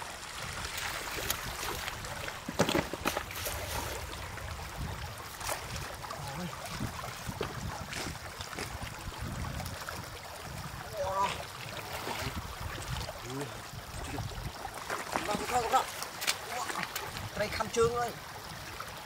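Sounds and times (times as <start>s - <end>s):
splashing in shallow water: 0.0s - 19.0s.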